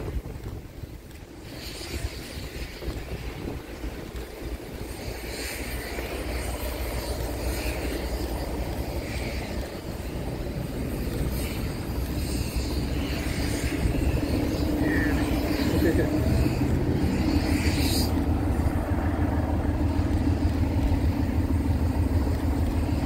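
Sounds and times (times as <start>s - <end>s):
locomotive engine rumble: 0.0s - 23.0s.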